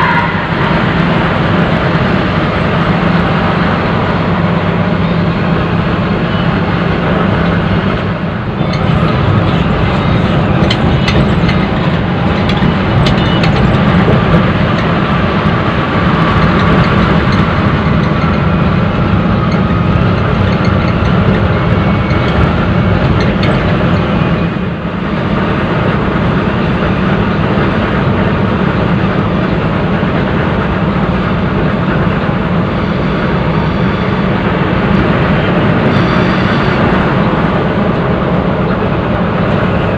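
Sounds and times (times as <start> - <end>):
coach engine drone: 0.0 - 39.9
wind: 0.0 - 39.9.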